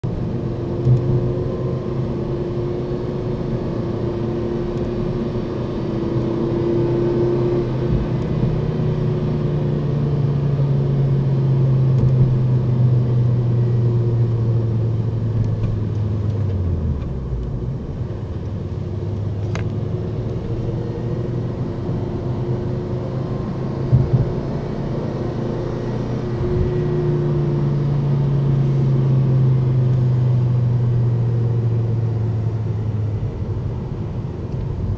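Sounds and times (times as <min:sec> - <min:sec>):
car engine droning: 0:00.0 - 0:34.9.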